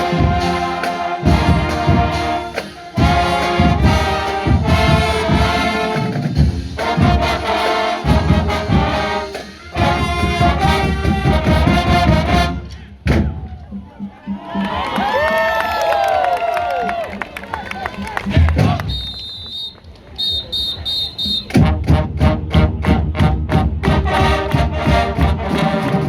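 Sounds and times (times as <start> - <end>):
trumpets and trombones: 0.0 - 13.2, 18.2 - 26.0
marching band playing: 0.0 - 15.3, 16.2 - 26.0
steady drumbeat: 0.0 - 26.0.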